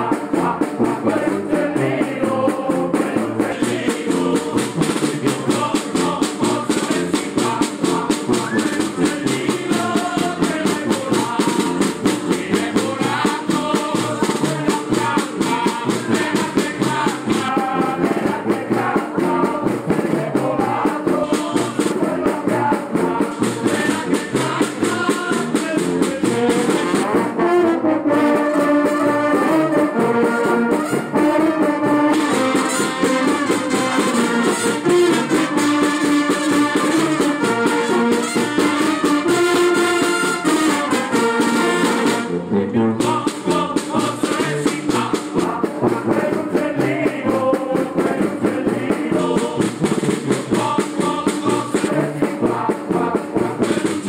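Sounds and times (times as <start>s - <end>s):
brass band playing: 0.0s - 54.0s
fast percussion beat: 0.0s - 54.0s.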